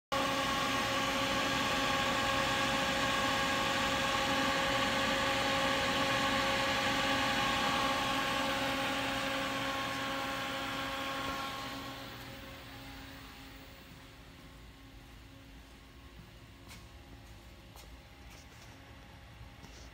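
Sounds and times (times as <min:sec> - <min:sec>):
machine hum and whir: 0:00.1 - 0:19.9.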